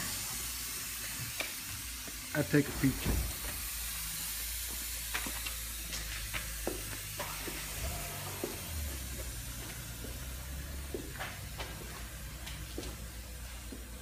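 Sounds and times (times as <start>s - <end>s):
gas hissing through a hose: 0.0s - 14.0s.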